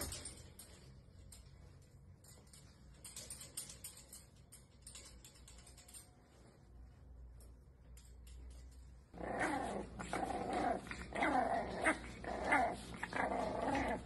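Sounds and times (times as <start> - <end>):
faint rustles: 0.0 - 14.0.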